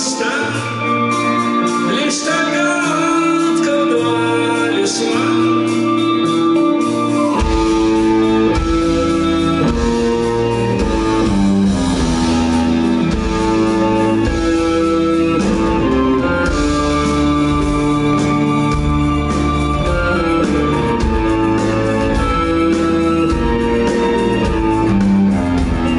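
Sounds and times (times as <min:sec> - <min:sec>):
bass guitar: 0:00.0 - 0:25.9
guitar: 0:00.0 - 0:25.9
rock band playing live: 0:00.0 - 0:25.9.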